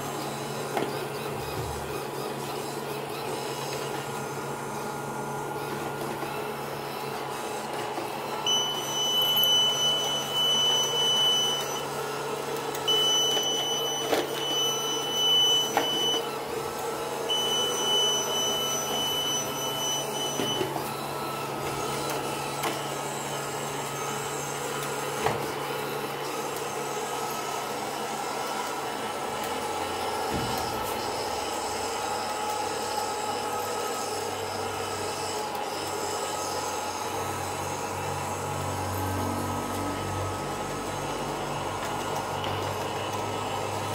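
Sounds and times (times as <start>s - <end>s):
robot vacuum whirring: 0.0s - 43.9s.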